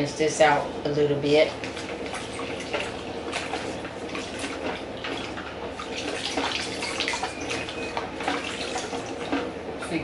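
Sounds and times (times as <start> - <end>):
kitchen tap running: 1.2 - 9.6.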